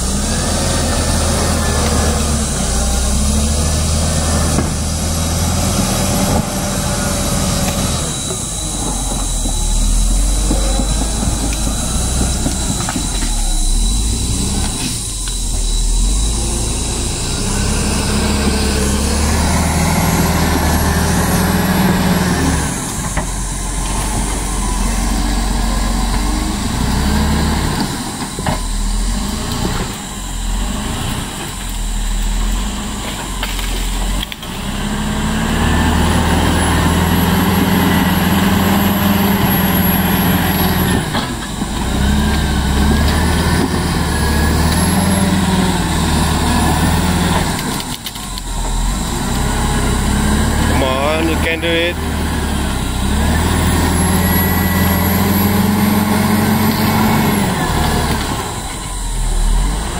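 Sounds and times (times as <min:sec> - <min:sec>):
diesel engine under load: 0:00.0 - 0:59.9
high engine whine: 0:00.0 - 0:59.9.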